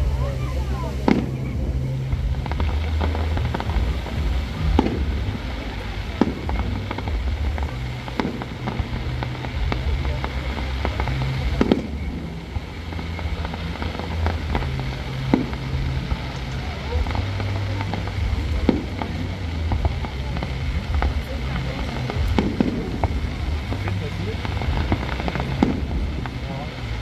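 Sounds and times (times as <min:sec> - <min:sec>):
firework shells bursting: 0:00.0 - 0:27.0
fireworks crackling: 0:00.0 - 0:27.0
low rumble: 0:00.0 - 0:27.0.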